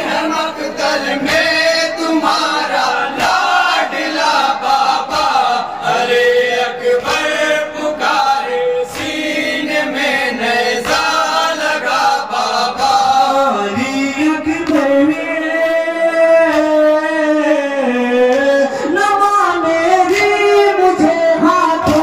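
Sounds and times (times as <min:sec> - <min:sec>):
men chanting lament in chorus: 0:00.0 - 0:22.0.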